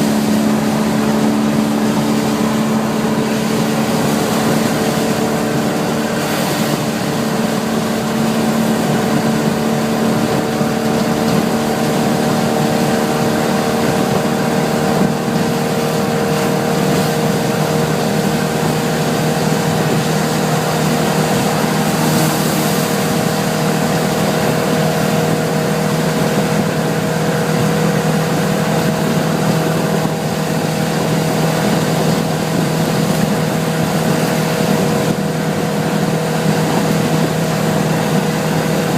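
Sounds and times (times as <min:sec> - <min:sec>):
road noise: 0:00.0 - 0:32.0
car engine droning: 0:00.0 - 0:38.9
wind: 0:00.0 - 0:38.9.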